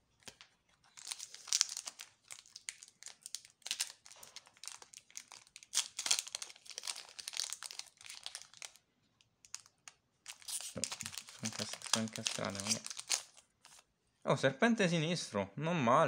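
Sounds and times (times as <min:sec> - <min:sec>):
foil wrapper crinkling: 0:00.1 - 0:08.8, 0:09.4 - 0:13.8.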